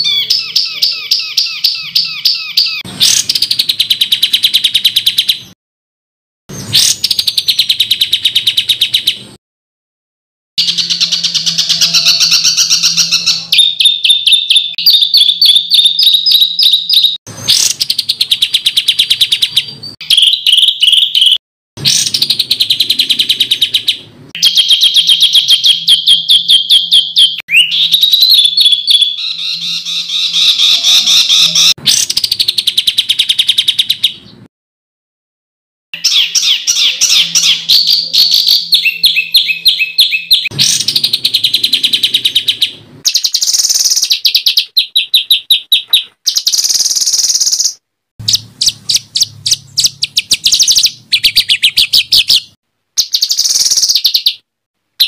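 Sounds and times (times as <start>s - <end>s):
songbird trilling: 0.0s - 5.5s, 10.6s - 34.3s, 36.0s - 54.4s.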